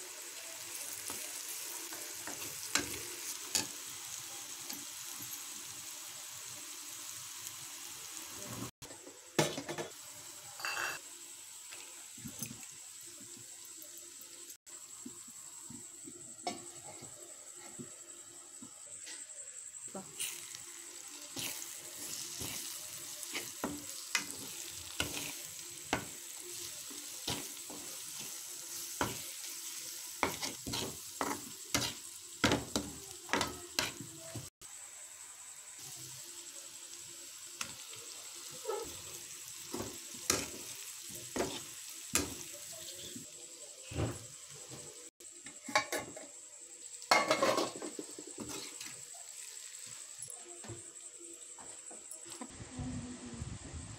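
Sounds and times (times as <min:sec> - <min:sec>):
food sizzling in pan: 0:00.0 - 0:53.9.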